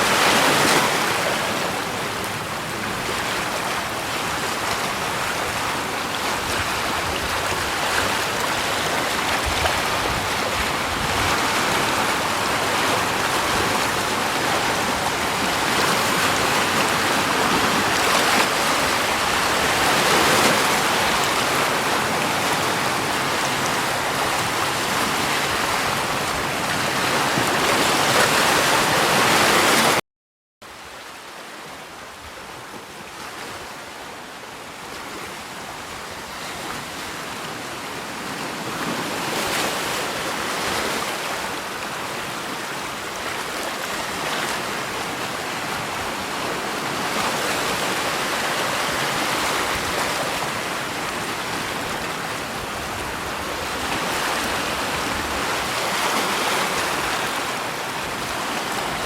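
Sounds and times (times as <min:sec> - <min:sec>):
rushing water: 0:00.0 - 0:30.0, 0:30.6 - 0:59.0.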